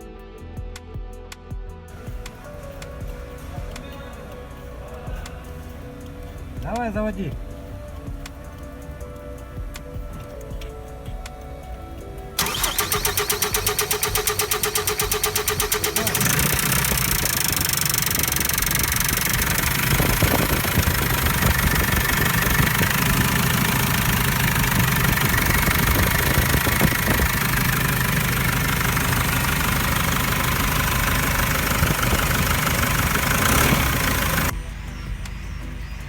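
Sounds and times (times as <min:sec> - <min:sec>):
diesel engine idling with clatter: 0:02.0 - 0:36.0.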